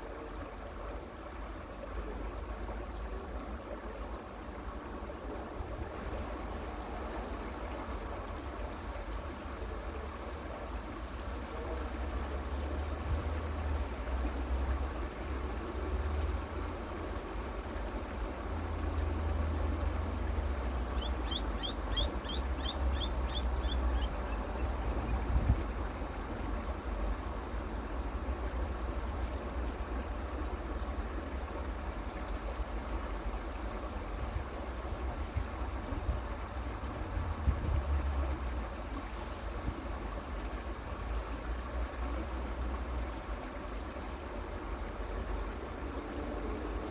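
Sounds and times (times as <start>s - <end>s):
creek water running: 0.0s - 46.9s.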